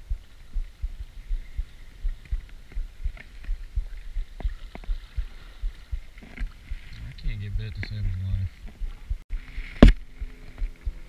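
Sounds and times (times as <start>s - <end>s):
waves slapping against boat hull: 0.1s - 11.0s.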